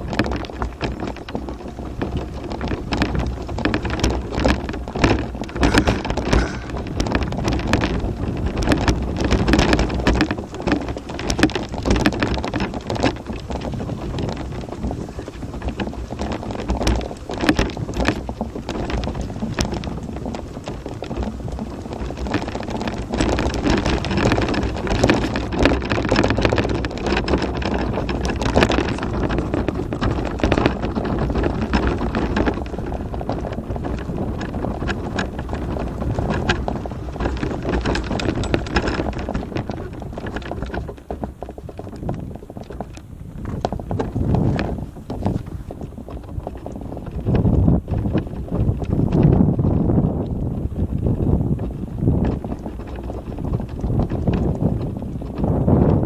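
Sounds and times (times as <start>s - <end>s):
small clicks and knocks: 0.0s - 49.4s
tyres crunching on gravel: 0.0s - 49.4s
mobility scooter rumbling: 0.0s - 56.0s
wind buffeting microphone: 0.0s - 56.0s.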